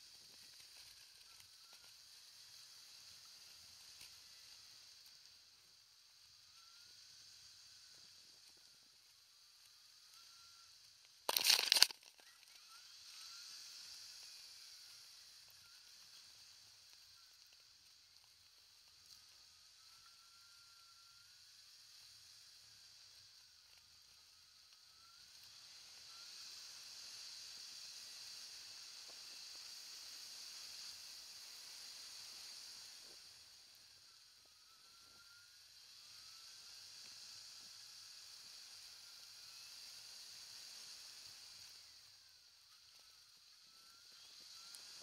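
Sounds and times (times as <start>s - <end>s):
wind and tyres on asphalt: 0.0s - 45.0s.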